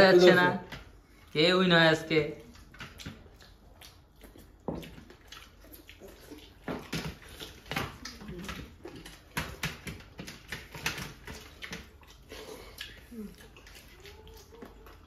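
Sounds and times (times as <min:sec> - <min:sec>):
chewing and lip smacking: 0:02.1 - 0:15.0
hands mashing wet rice: 0:02.4 - 0:15.0.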